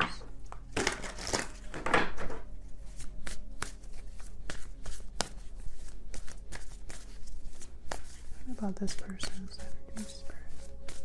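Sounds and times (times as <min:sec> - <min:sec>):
cards being shuffled: 0:00.6 - 0:01.8, 0:02.8 - 0:11.0.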